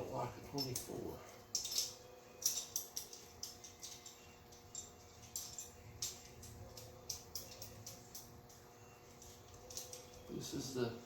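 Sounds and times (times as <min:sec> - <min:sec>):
chainsaw chain clicking and rattling: 0:00.5 - 0:10.4.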